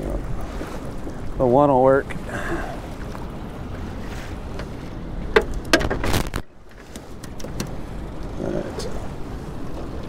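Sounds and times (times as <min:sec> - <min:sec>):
water rushing around boat: 0:00.0 - 0:10.0
wind: 0:00.0 - 0:10.0.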